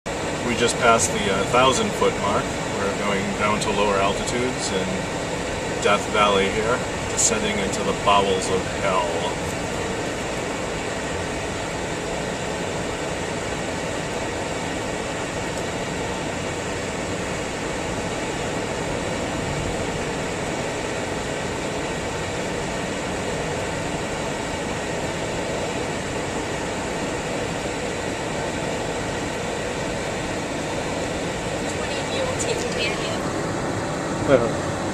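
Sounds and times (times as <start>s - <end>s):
car cabin road and engine noise: 0.1s - 34.9s.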